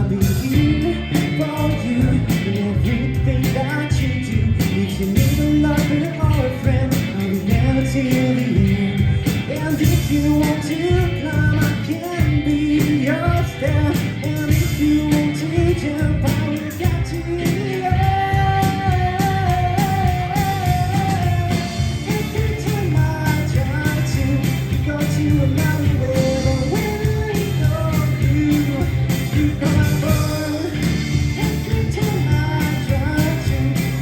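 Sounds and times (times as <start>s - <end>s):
person singing lead vocal: 0.0s - 34.0s
rock band playing: 0.0s - 34.0s.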